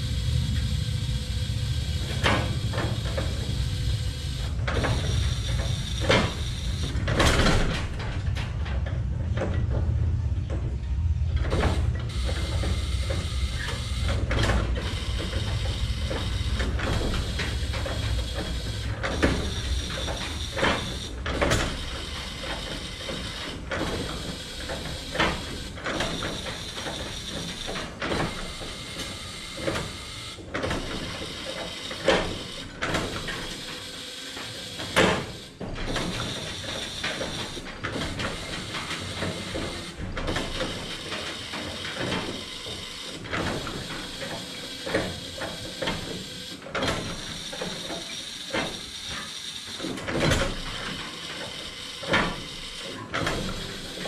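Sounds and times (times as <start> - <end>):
metal clanks and rattles of tools: 4.4 - 54.0.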